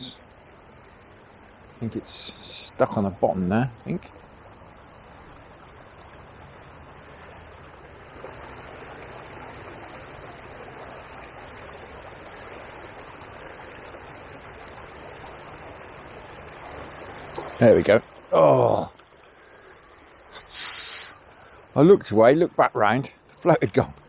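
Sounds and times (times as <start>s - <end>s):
river water running fast: 0.0s - 24.0s.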